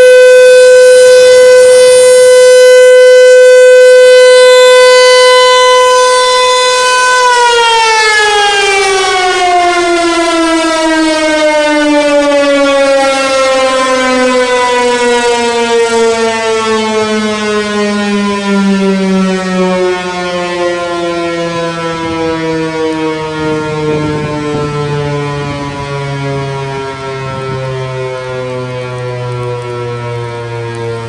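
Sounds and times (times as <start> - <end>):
warning siren winding down: 0.0 - 31.0.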